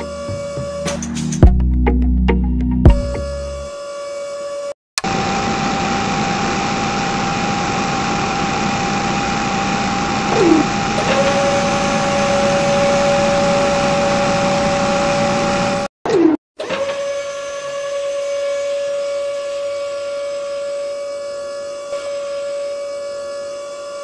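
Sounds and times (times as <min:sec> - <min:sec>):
small motor whining: 0:03.0 - 0:15.9, 0:16.6 - 0:24.0.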